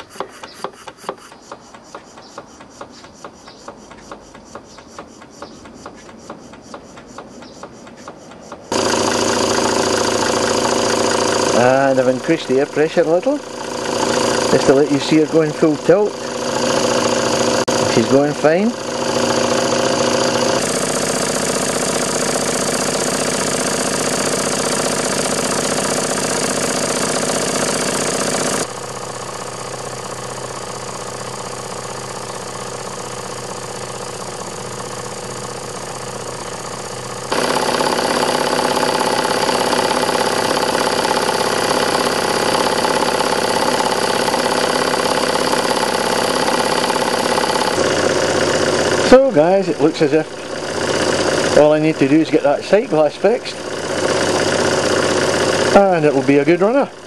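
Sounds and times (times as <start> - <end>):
toy steam engine clattering: 0.0 - 28.7, 29.8 - 57.0.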